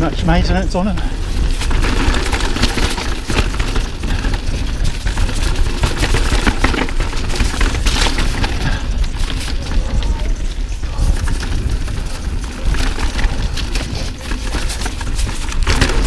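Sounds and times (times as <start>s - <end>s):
bike clattering over rocky trail: 0.0s - 16.0s
wind rumble on microphone: 0.0s - 16.0s.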